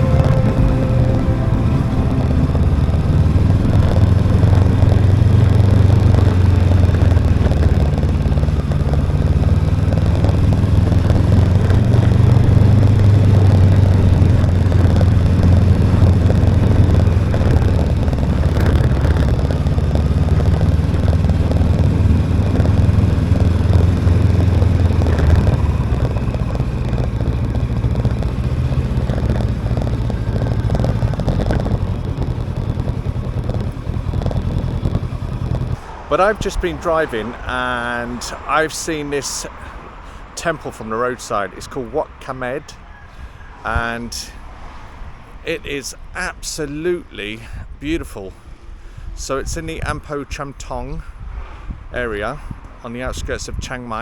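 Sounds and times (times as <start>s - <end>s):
motorcycle engine cruising: 0.0s - 45.6s
wind and road noise: 0.0s - 54.0s.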